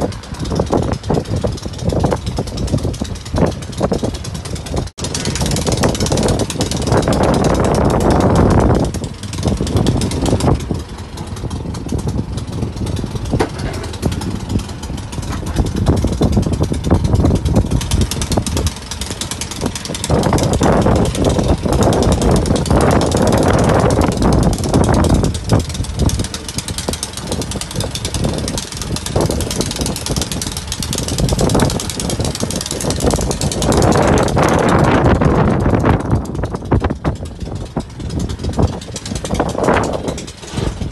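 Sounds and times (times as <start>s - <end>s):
snow blower engine running: 0.0s - 40.9s.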